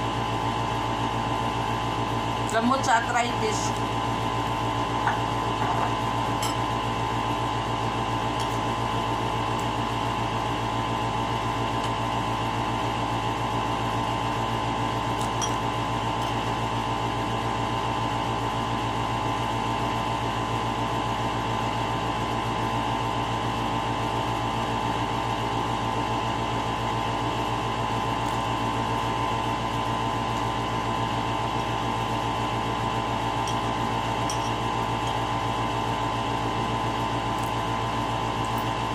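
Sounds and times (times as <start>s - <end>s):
mechanical hum: 0.0s - 38.9s.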